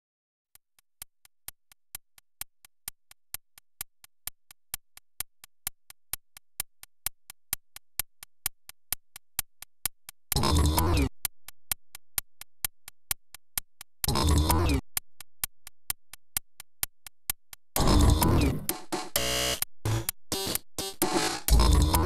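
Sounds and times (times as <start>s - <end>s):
clock tick-tock: 0.5s - 22.0s.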